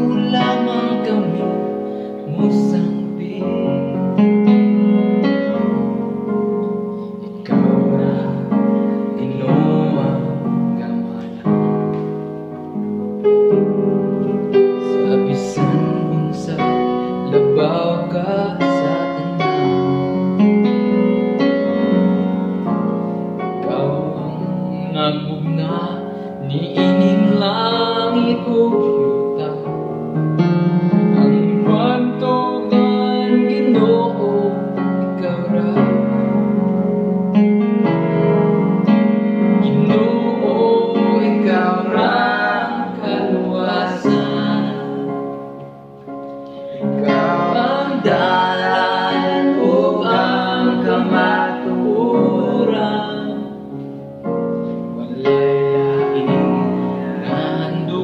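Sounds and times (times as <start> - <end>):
keyboard playing piano melody: 0.0 - 58.0.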